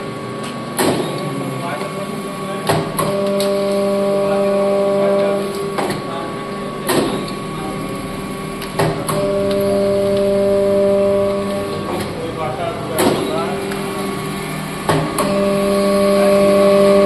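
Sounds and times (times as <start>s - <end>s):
machine motor hum: 0.0s - 17.0s.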